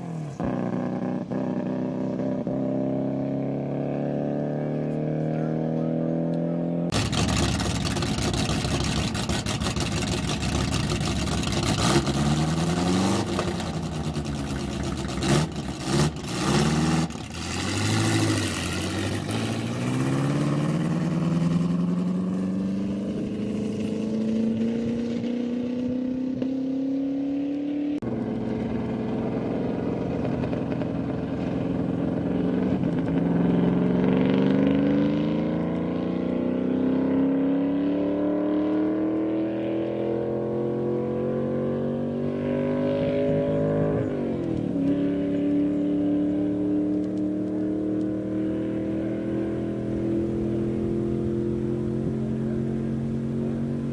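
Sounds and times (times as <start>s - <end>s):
racing engine at full throttle: 0.0s - 53.9s.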